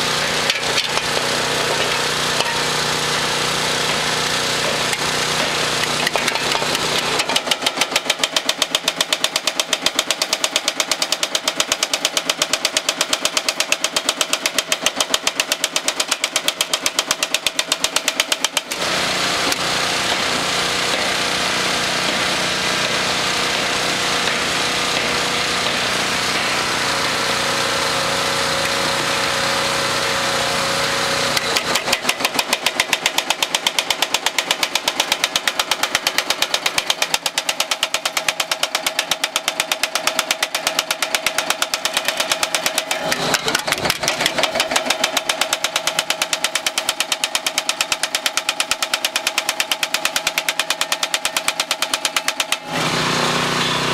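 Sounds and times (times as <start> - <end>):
power hammer striking sheet metal: 0.0 - 29.4, 31.3 - 53.9
power hammer running: 0.0 - 53.9.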